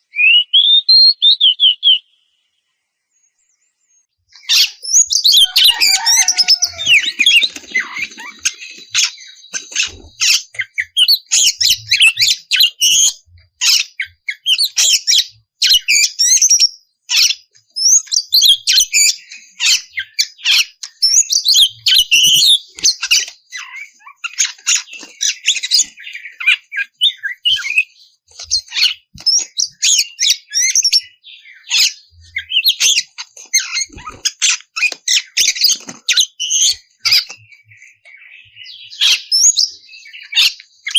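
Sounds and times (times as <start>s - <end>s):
songbird singing whistles: 0.0s - 2.2s, 4.3s - 40.9s.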